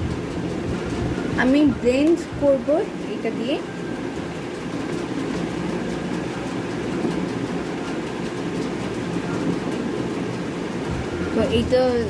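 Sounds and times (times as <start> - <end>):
fan humming and rushing: 0.0 - 12.0.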